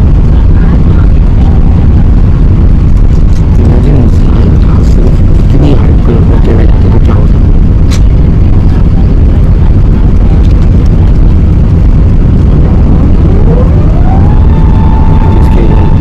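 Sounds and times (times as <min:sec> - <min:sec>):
jet engine cabin roar: 0:00.0 - 0:16.0
rising whine: 0:00.0 - 0:16.0.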